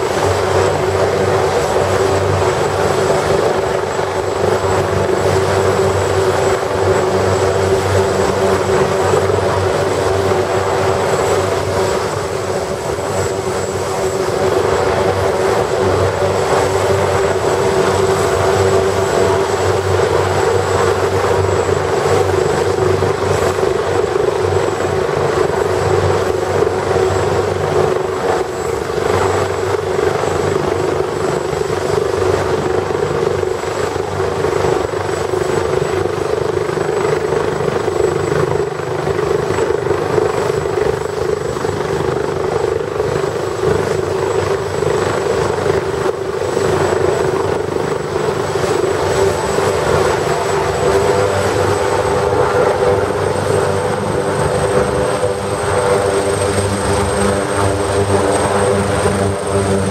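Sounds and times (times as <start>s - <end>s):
helicopter engine and rotors: 0.0s - 59.9s
high turbine whine: 0.0s - 59.9s.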